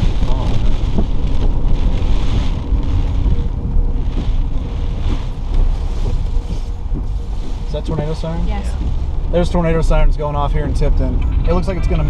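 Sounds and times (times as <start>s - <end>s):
vehicle interior rumble: 0.0s - 12.0s
wind buffeting: 0.0s - 12.0s.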